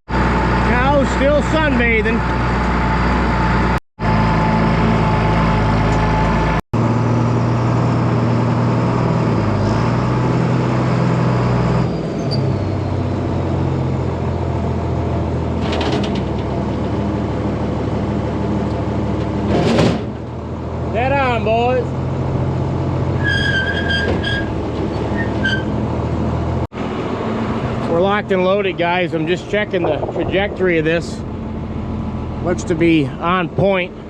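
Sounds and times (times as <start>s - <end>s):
diesel tractor engine running: 0.1s - 34.0s.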